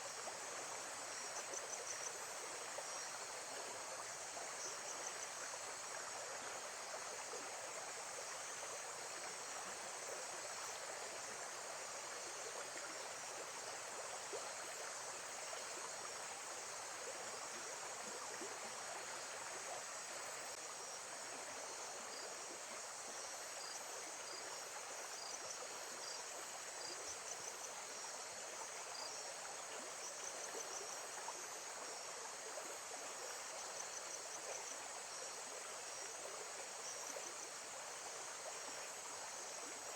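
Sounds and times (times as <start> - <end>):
insects chirping in trills: 0.1 - 6.1, 6.8 - 39.9.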